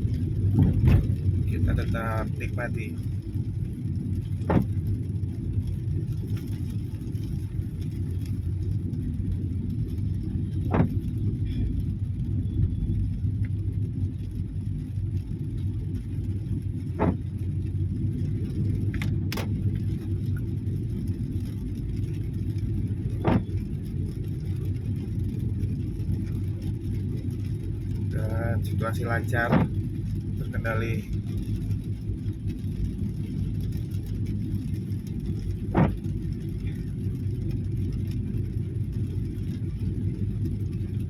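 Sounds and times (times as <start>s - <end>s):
engine and tyre rumble: 0.0s - 41.0s.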